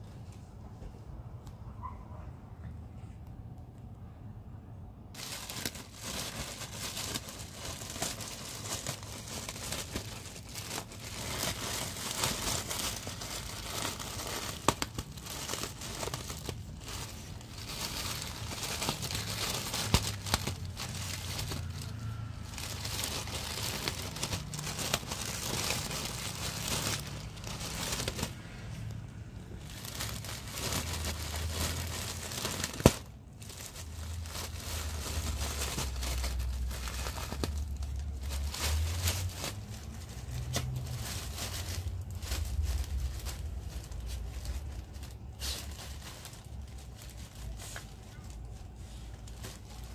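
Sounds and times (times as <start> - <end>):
plastic bag crinkling: 5.2 - 49.9.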